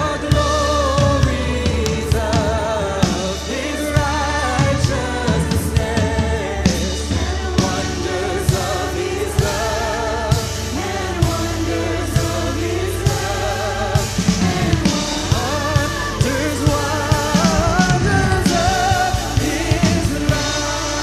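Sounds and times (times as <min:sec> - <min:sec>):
bass line: 0:00.0 - 0:21.0
drum hits: 0:00.0 - 0:21.0
voices singing: 0:00.0 - 0:21.0.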